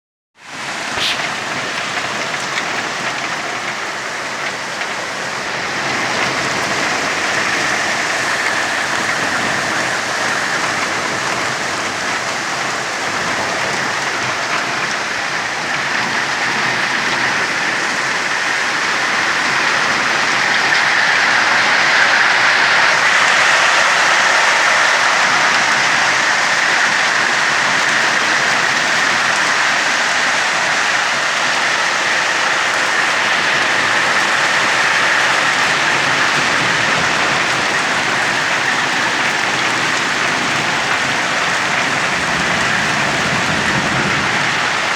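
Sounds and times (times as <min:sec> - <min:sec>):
heavy rain pouring: 0:00.4 - 0:44.9.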